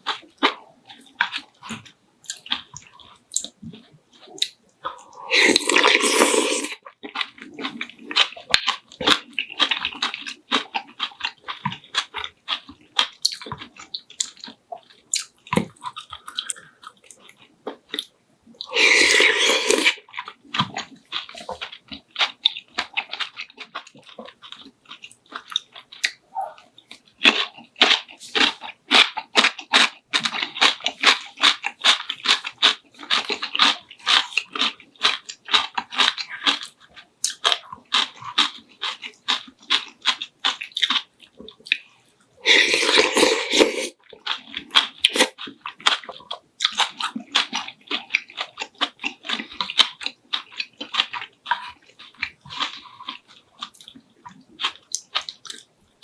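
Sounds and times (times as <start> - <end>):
crunchy chewing and biting: 0.0 - 18.0, 18.6 - 55.7.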